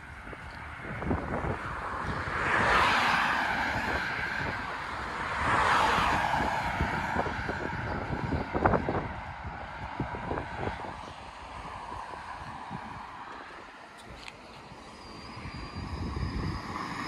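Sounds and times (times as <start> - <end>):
cars passing on road: 0.0 - 17.0
wind buffeting microphone: 0.0 - 17.0.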